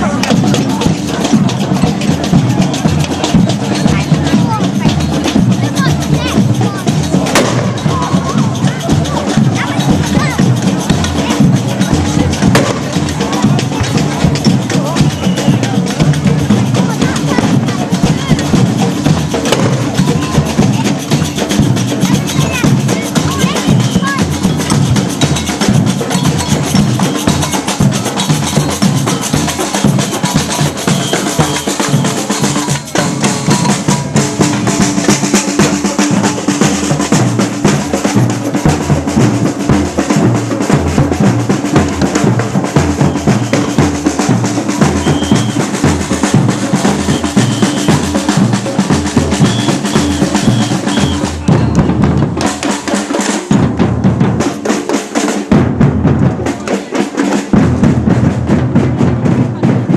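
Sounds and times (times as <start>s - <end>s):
drum band playing: 0.0s - 59.9s.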